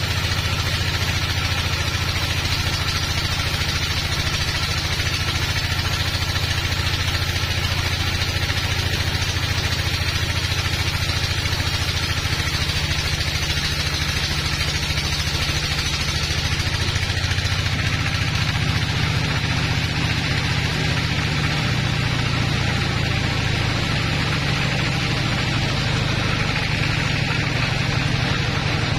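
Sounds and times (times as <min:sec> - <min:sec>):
low engine drone: 0:00.0 - 0:28.9.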